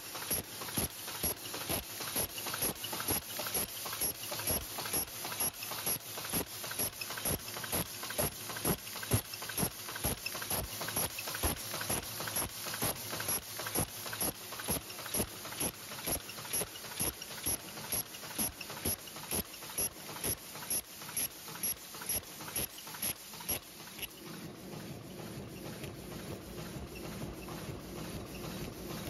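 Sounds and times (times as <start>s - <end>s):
machine clacking rhythmically: 0.0s - 29.0s.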